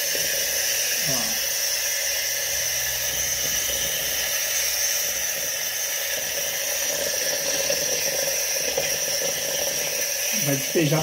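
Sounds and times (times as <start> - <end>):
steam wand hissing: 0.0 - 11.0.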